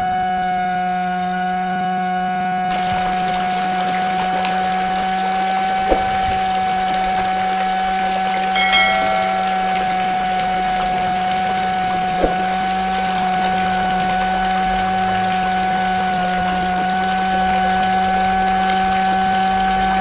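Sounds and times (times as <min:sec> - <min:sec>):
water splashing onto ground: 0:02.7 - 0:20.0.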